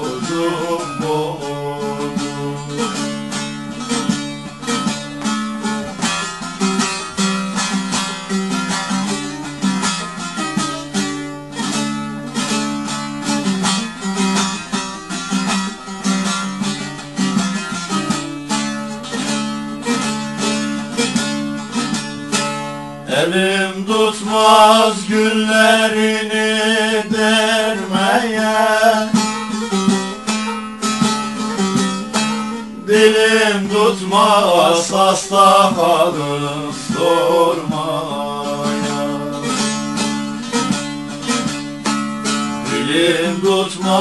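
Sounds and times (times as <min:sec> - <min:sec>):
plucked long-necked lute melody: 0:00.0 - 0:44.0.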